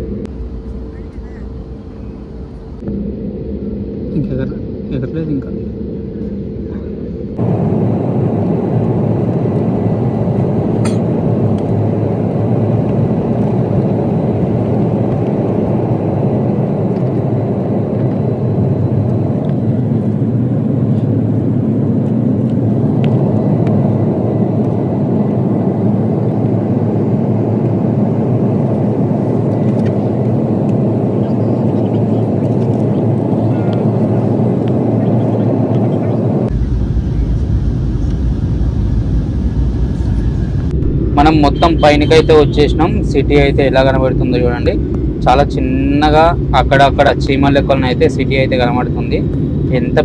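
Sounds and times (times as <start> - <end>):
jet cabin engine and air rush: 0.0 - 50.0.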